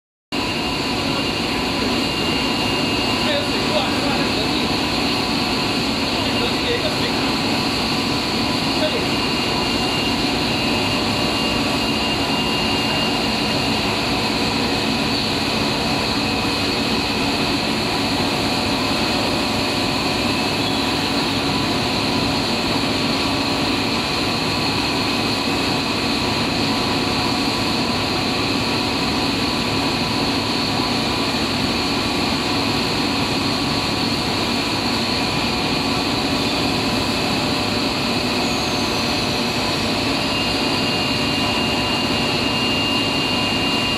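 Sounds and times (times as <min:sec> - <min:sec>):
machine hum and whine: 0:00.3 - 0:43.9.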